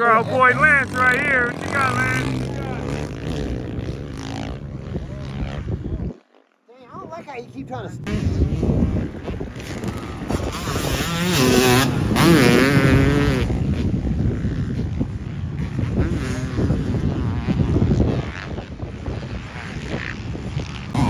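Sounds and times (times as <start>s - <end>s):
dirt bike engine revving: 0.0s - 6.5s, 7.1s - 21.0s.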